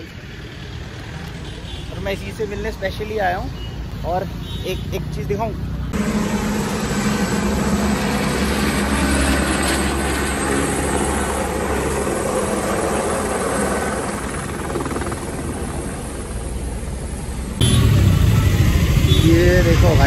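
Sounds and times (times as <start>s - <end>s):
helicopter rotor and engine noise: 0.0s - 20.0s.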